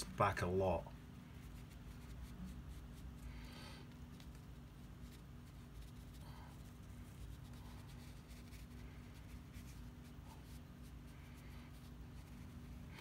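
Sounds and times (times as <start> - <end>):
low steady hum: 0.0 - 13.0
brush scratching on paper: 1.0 - 13.0.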